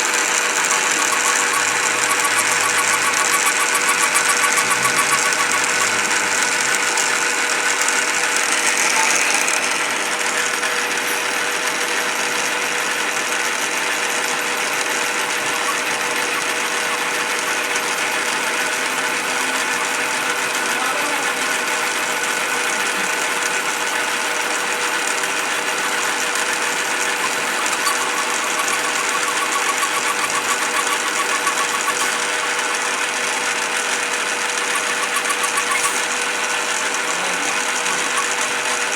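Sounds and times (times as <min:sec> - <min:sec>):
lathe motor humming and whining: 0:00.0 - 0:38.9.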